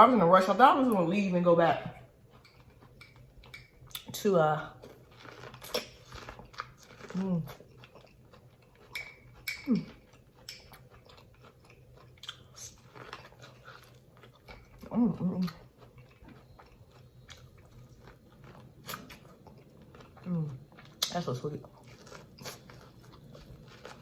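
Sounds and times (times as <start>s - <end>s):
chewing corn on the cob: 2.0s - 4.1s, 4.8s - 24.0s.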